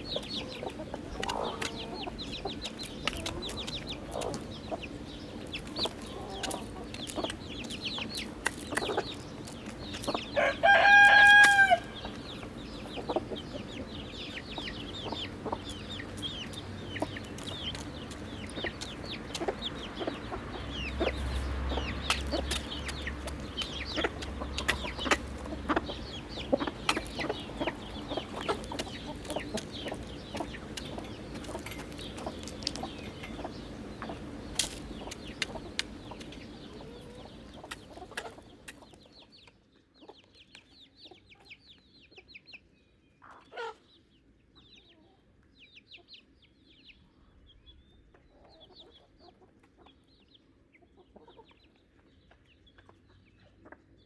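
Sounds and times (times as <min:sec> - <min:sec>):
chickens clucking: 0:00.0 - 0:42.6, 0:47.9 - 0:54.0.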